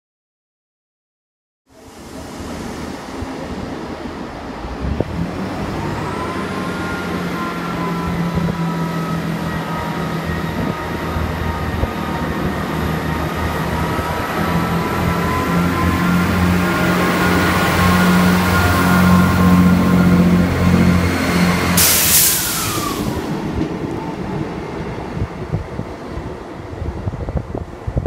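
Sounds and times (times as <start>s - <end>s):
diesel train engine drone: 1.7s - 28.0s
train whine: 1.7s - 28.0s.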